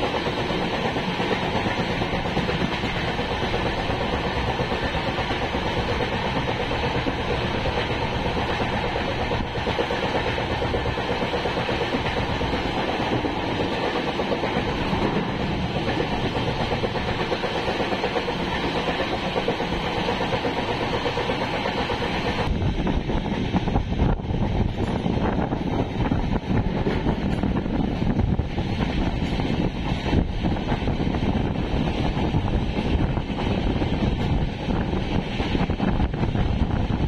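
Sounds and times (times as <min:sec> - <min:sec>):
train coaches rumbling on rails: 0:00.0 - 0:37.0
train hiss: 0:00.0 - 0:37.0.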